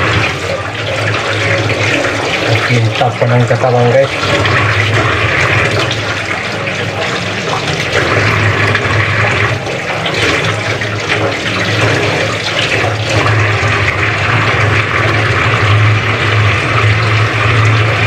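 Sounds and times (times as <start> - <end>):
tap water splashing into sink: 0.0 - 18.0.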